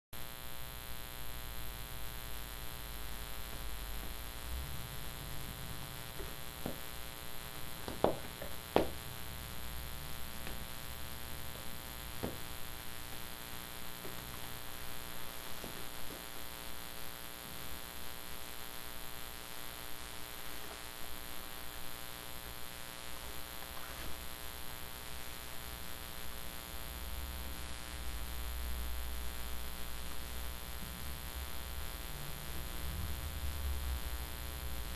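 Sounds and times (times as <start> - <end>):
electrical hum: 0.2 - 34.9.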